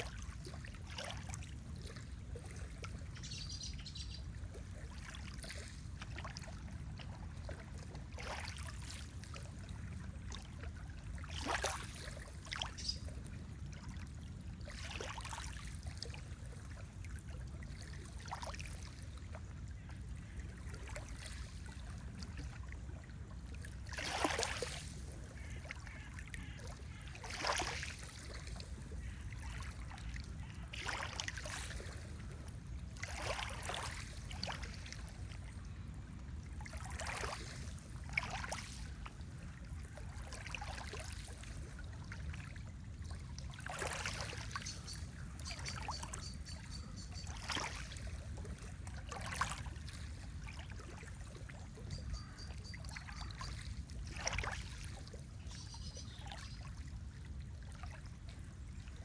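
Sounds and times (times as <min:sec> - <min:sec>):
lake water lapping: 0:00.0 - 0:59.0.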